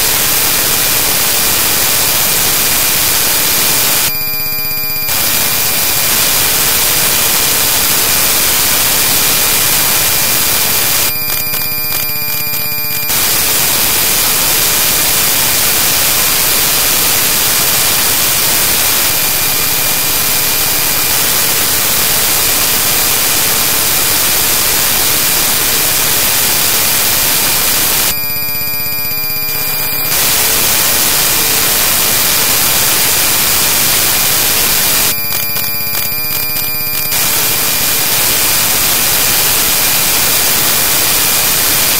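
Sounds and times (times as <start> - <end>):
loud static hiss: 0.0 - 41.9.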